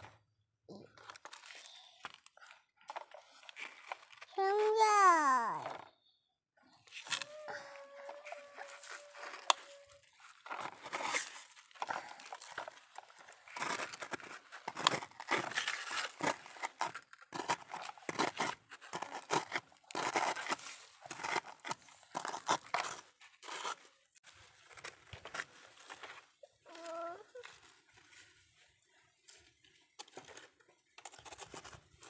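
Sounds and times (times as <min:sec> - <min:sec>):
plastic shovel scraping soil: 0:02.9 - 0:05.8, 0:06.8 - 0:32.0.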